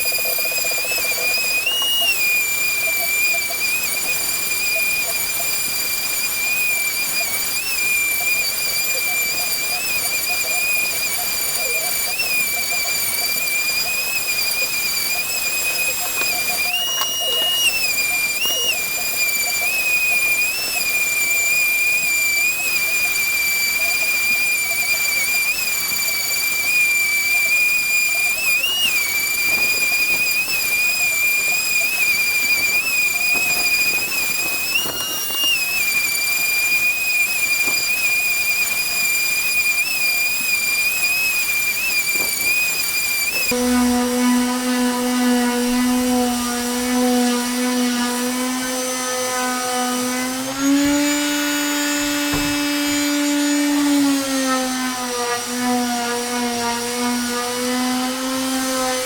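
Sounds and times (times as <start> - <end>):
sanding hiss: 0.0 - 57.8
electric sander whining: 0.0 - 59.0.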